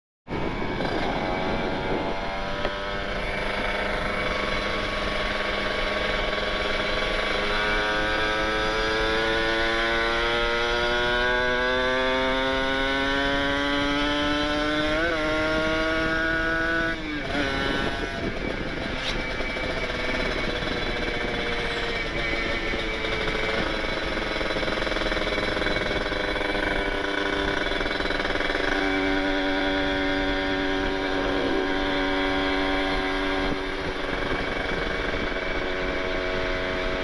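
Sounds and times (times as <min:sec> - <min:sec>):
motorcycle engine accelerating: 0:00.3 - 0:37.0.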